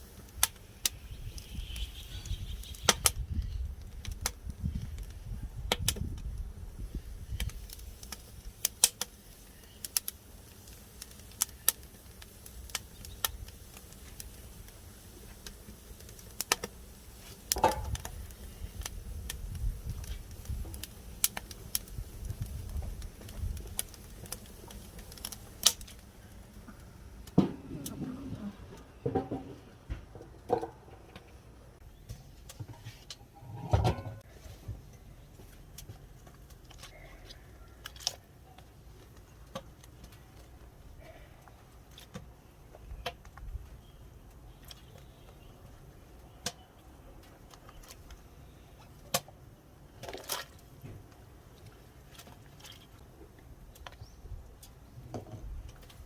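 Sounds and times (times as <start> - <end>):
wood fire crackling and popping: 0.0 - 28.5, 35.4 - 56.0.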